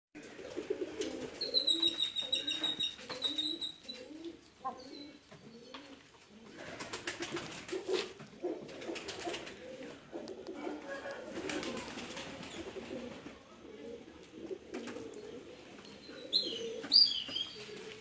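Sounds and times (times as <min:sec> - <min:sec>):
bird cooing: 0:00.2 - 0:07.0, 0:07.7 - 0:18.0.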